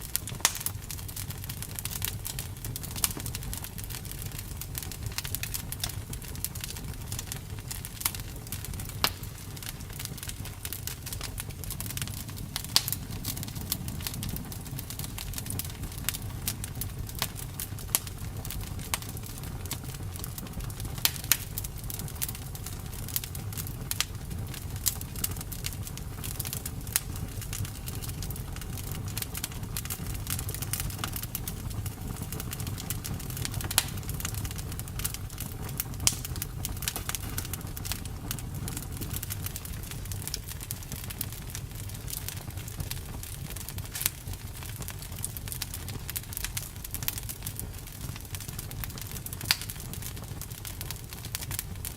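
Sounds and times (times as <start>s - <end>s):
campfire crackling: 0.0s - 51.9s.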